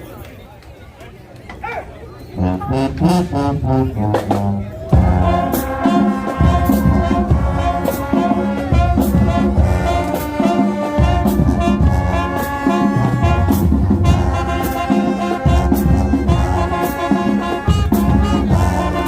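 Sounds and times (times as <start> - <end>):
brass chords: 2.4 - 19.0
marching drums: 2.7 - 19.0.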